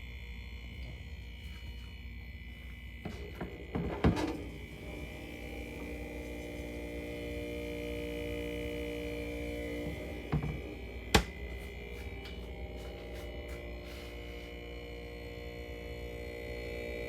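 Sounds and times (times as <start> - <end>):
mini fridge humming: 0.0 - 17.0.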